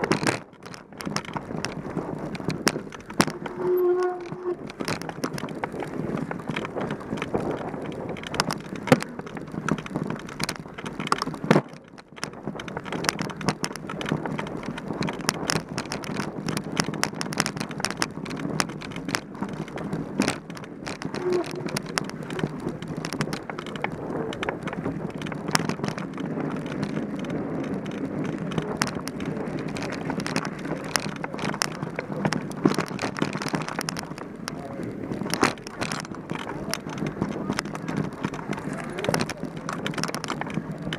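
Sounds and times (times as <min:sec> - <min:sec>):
bike rattles and knocks: 0:00.0 - 0:40.9
bike tyres on rough trail: 0:00.0 - 0:40.9.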